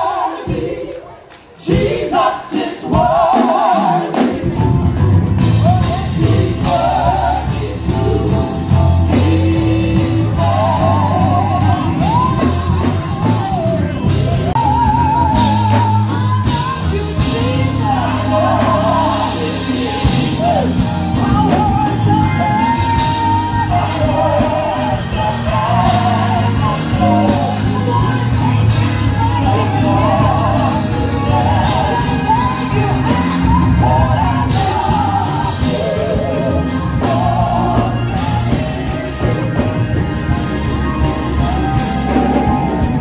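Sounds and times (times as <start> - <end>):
band with steady bass line: 0.0 - 43.0.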